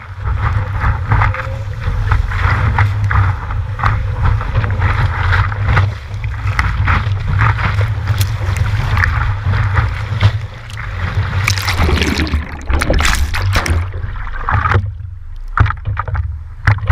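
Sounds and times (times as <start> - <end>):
heavy low rumble: 0.0 - 16.9
water lapping: 0.0 - 16.9
water rushing against surfboard: 0.0 - 16.9
water splashes: 0.0 - 16.9.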